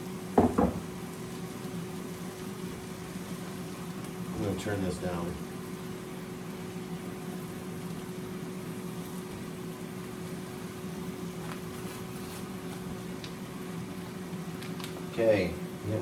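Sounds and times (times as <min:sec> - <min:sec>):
steady low hum with hiss: 0:00.0 - 0:16.0.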